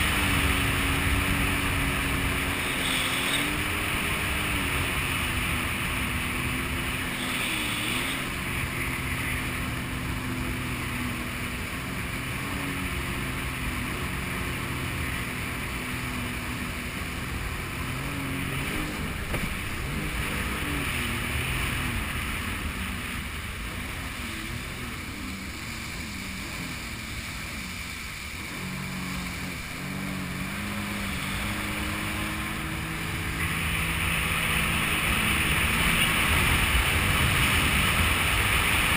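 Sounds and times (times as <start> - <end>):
jet ski engine running: 0.0 - 38.9
water rushing under hull: 0.0 - 38.9.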